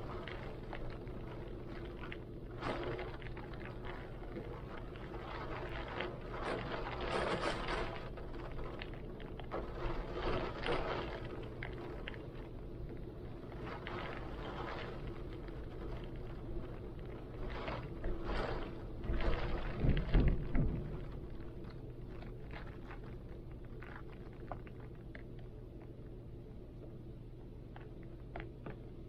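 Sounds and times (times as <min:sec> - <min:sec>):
rain: 0:00.0 - 0:25.9.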